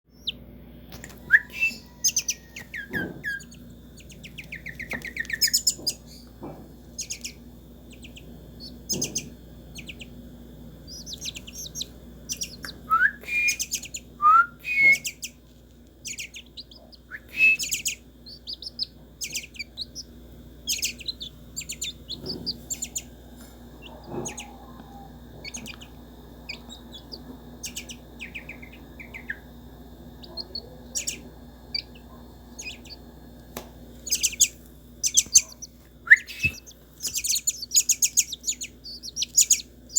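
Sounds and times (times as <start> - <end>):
bird chirps and trills: 0.1 - 0.4, 1.0 - 23.2, 23.8 - 33.1, 34.0 - 39.9
sharp rising bird calls: 1.2 - 6.2, 6.9 - 10.2, 10.8 - 15.4, 16.0 - 23.2, 23.8 - 33.1, 34.0 - 39.9.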